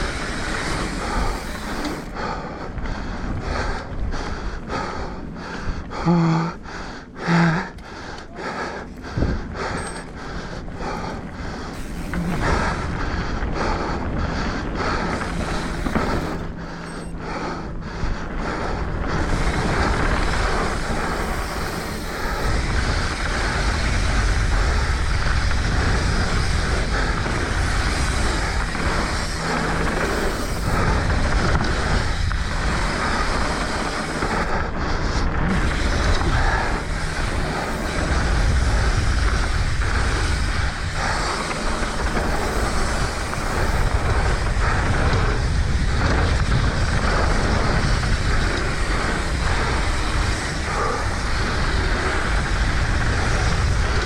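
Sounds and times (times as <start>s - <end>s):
bike rattling over bumps: 0.0s - 54.0s
bike tyre rumble: 0.0s - 54.0s
wind buffeting: 0.0s - 54.0s.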